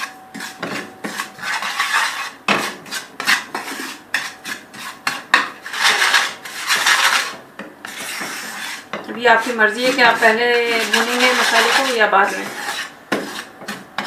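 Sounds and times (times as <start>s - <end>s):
utensil scraping spices in pan: 0.0s - 14.0s.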